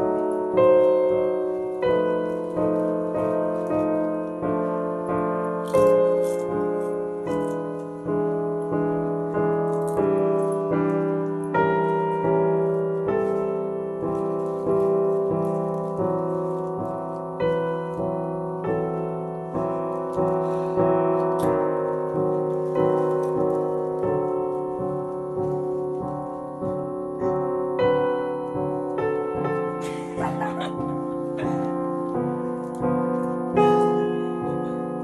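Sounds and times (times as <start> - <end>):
slow piano music: 0.0 - 35.0.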